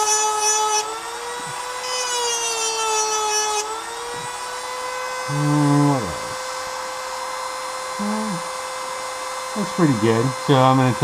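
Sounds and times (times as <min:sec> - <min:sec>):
rotary tool whining: 0:00.0 - 0:11.0.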